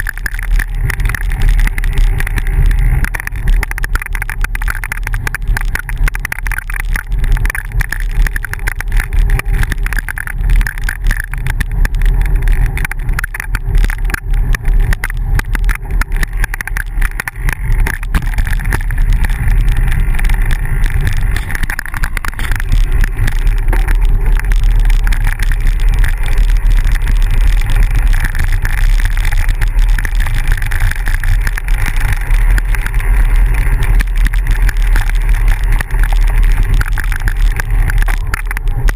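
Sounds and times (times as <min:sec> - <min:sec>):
tyres rolling over gravel: 0:00.0 - 0:38.9
wind rumble on microphone: 0:00.0 - 0:38.9.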